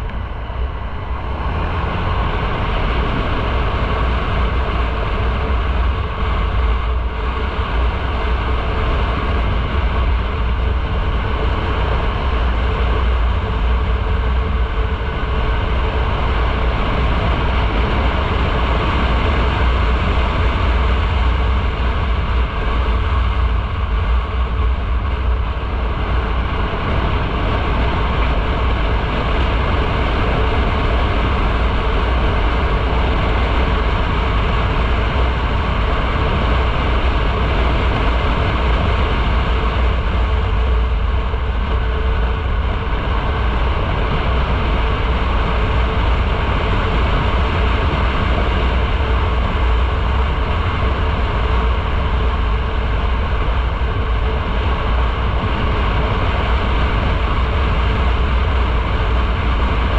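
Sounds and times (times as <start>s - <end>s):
road and engine noise: 0.0s - 59.9s
wind buffeting microphone: 0.0s - 59.9s.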